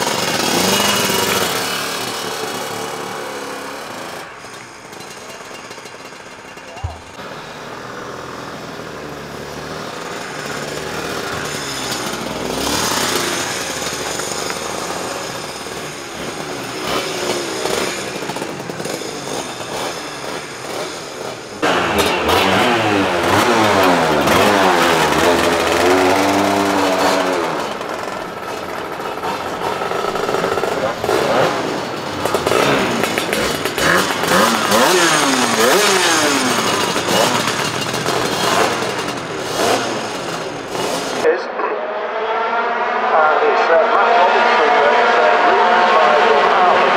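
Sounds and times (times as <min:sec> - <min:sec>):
two-stroke kart engines revving: 0:00.0 - 0:46.9.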